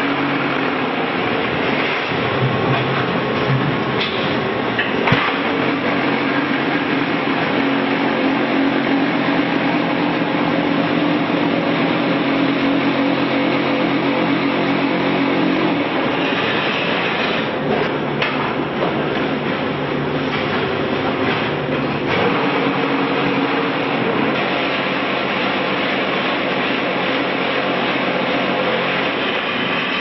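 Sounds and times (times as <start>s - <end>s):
block-making machine din: 0.4s - 30.0s.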